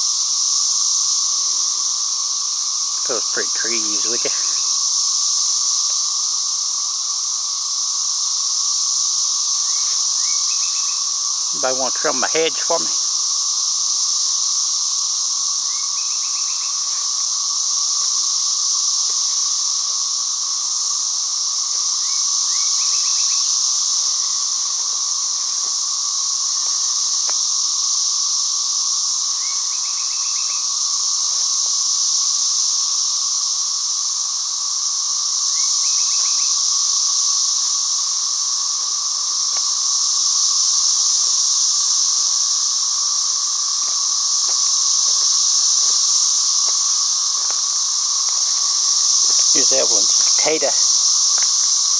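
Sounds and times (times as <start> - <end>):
cicadas droning: 0.0 - 51.9.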